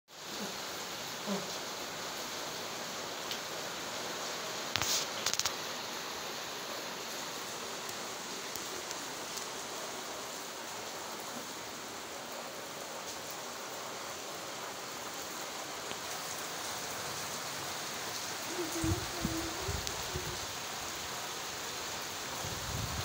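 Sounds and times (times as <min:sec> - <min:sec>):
steady rain falling: 0:00.1 - 0:23.0.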